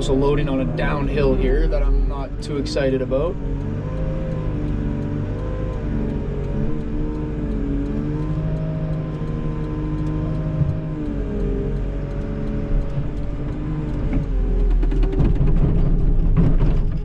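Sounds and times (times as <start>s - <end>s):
loader diesel engine revving: 0.0s - 16.6s.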